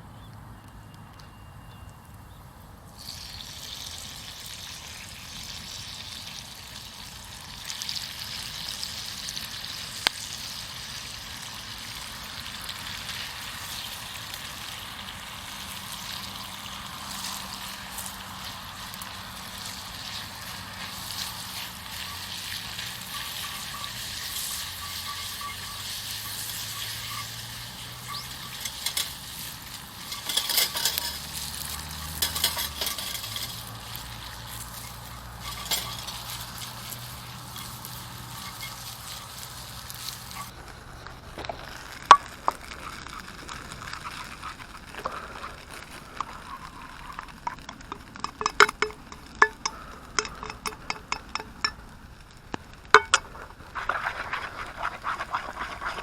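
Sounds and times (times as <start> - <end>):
food sizzling in a pan: 3.0 - 56.0.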